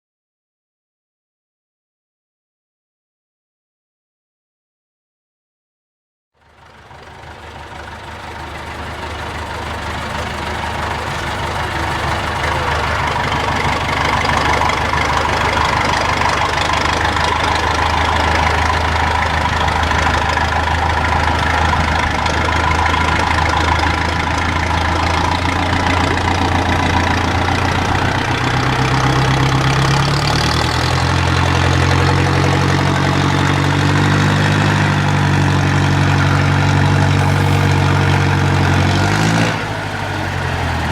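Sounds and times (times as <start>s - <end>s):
truck engine running: 6.4s - 40.9s.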